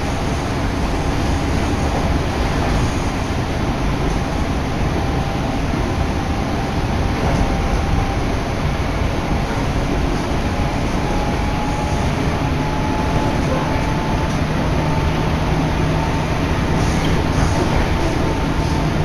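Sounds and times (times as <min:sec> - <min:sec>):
train rumble and rail noise: 0:00.0 - 0:19.0.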